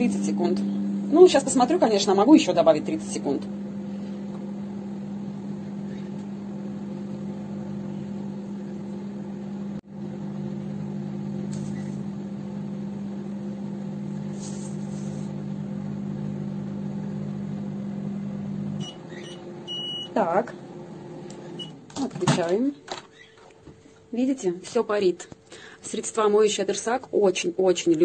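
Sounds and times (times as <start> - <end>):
microwave oven humming: 0.0 - 28.0.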